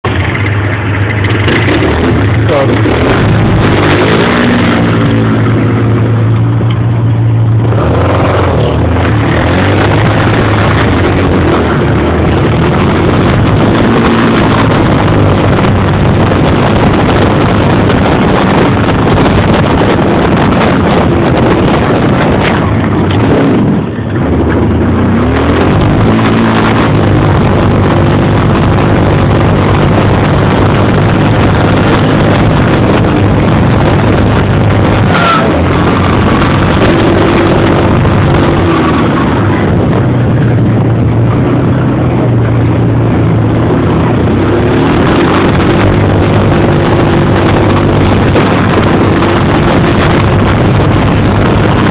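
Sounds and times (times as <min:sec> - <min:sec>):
dense steady rush of noise: 0:00.0 - 0:51.9
quad bike engines running: 0:00.0 - 0:51.9.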